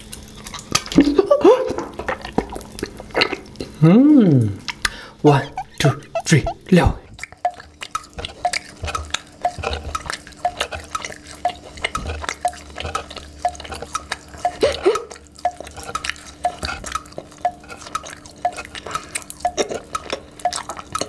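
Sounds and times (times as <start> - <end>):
chewing gummy candy: 0.0 - 21.0.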